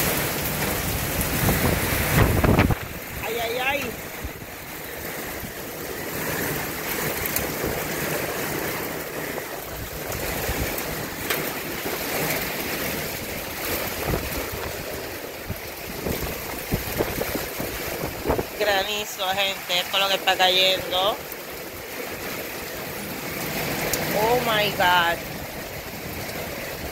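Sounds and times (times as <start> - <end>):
hailstones clicking: 0.0 - 26.9
heavy rain: 0.0 - 26.9.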